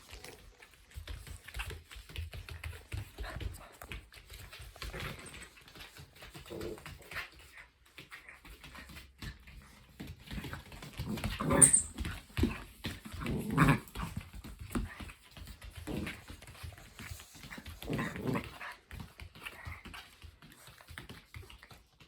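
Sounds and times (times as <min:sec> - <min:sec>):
puppy claws clicking on floor: 0:00.0 - 0:22.0.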